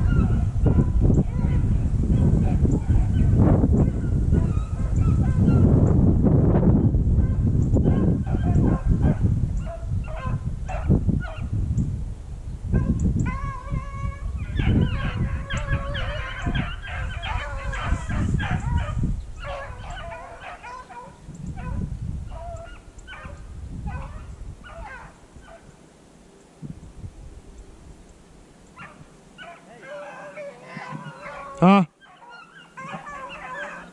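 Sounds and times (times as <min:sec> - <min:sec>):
hounds baying: 0:00.0 - 0:05.7, 0:07.2 - 0:11.5, 0:12.8 - 0:25.8, 0:28.7 - 0:33.9
wind rumble on microphone: 0:00.0 - 0:25.8, 0:26.6 - 0:29.5, 0:30.6 - 0:31.6, 0:32.7 - 0:33.9.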